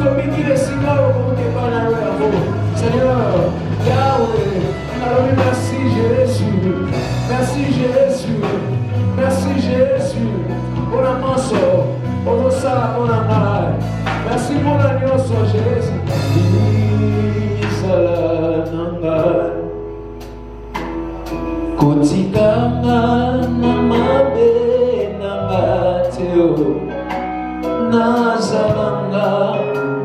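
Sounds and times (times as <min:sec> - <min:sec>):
person singing: 0:00.0 - 0:19.8, 0:21.2 - 0:30.0
bass line: 0:00.0 - 0:30.0
guitar: 0:00.0 - 0:30.0.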